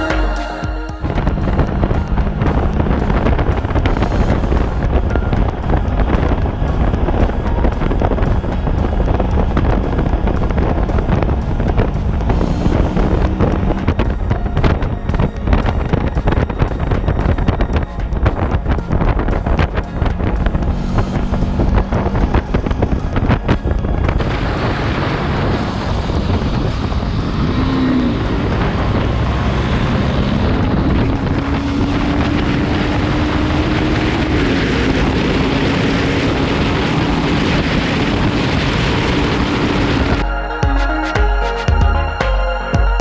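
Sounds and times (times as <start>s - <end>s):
motorcycle engine: 0.0s - 40.2s
road noise: 0.0s - 43.0s
wind buffeting microphone: 1.0s - 40.3s.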